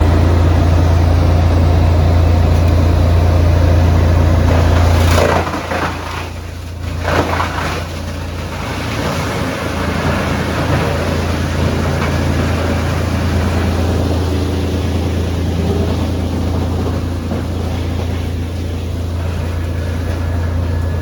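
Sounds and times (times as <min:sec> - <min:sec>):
branches rushing through chipper: 0:00.0 - 0:21.0
wood chipper humming: 0:00.0 - 0:21.0.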